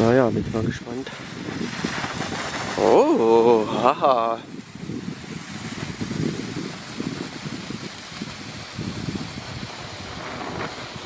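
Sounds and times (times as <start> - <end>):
firework crackles: 0.0 - 11.0
firework fountain hissing: 0.0 - 11.0.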